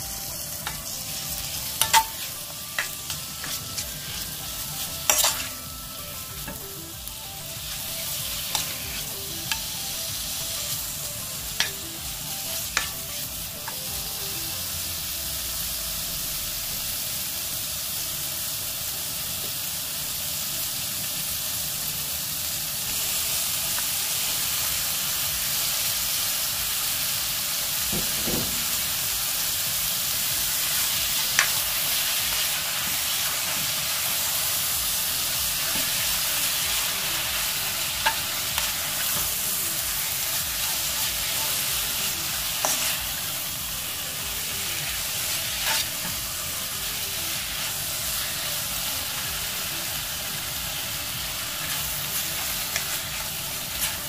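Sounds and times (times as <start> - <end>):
meat sizzling in a pot: 0.0 - 54.0.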